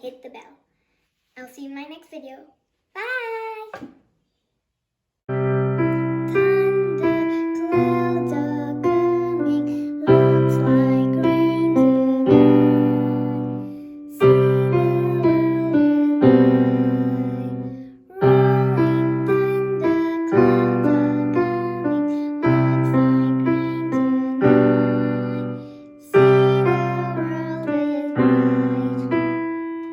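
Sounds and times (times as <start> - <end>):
electronic keyboard piano melody: 5.3 - 29.9.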